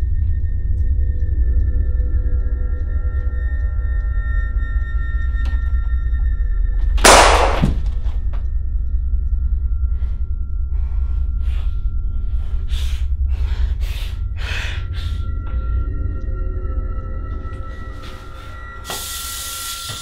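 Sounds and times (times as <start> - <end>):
low drone: 0.0 - 20.0.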